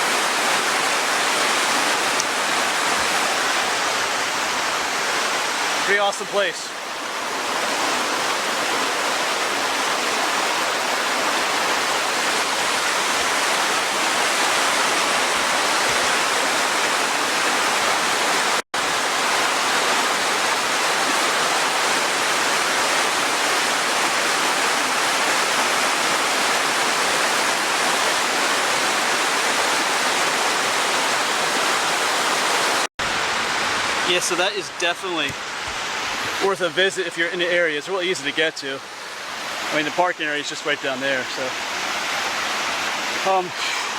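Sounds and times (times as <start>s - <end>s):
waterfall pouring: 0.0s - 38.8s, 39.4s - 43.9s.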